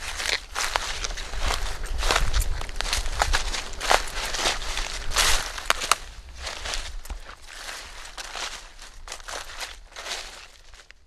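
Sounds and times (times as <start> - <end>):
low rumble: 0.0 - 10.4
footsteps on crunchy ground: 0.0 - 11.0.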